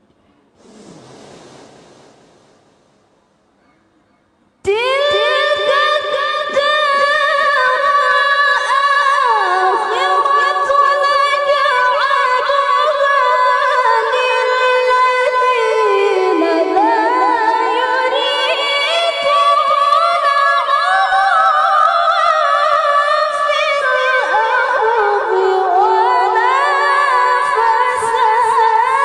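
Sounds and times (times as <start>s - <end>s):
woman chanting melodically: 4.6s - 29.0s.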